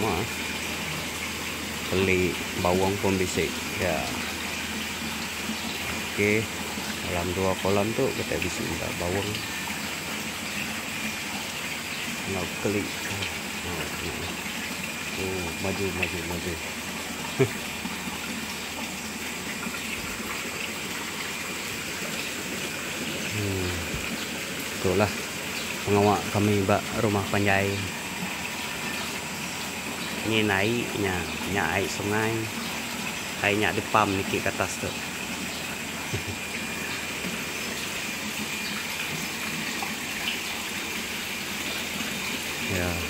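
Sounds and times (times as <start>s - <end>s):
water rushing into tank: 0.0s - 43.0s.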